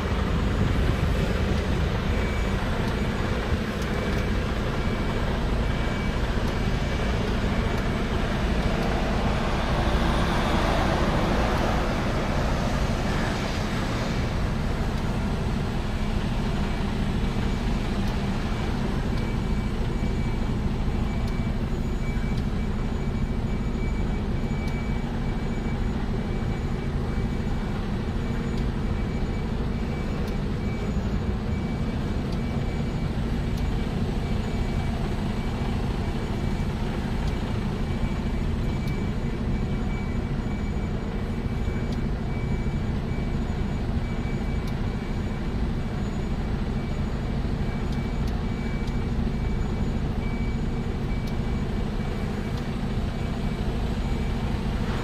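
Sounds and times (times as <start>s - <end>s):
truck engine and road drone: 0.0s - 55.0s.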